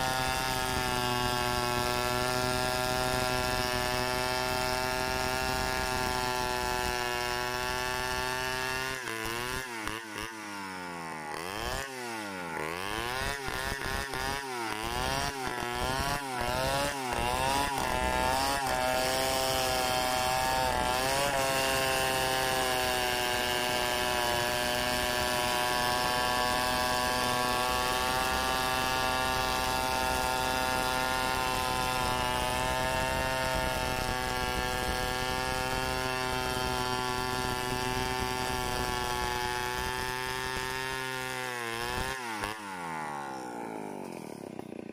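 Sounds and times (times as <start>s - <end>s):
chainsaw cutting a log: 0.0s - 44.9s.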